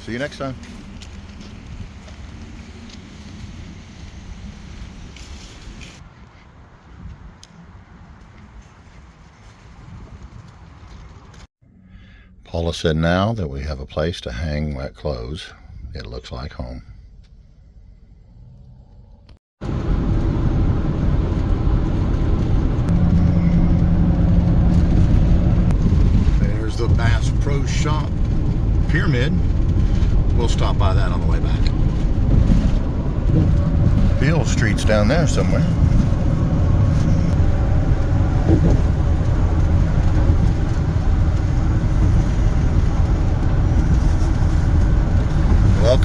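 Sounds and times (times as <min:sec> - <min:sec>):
engine and road rumble: 0:00.0 - 0:46.0.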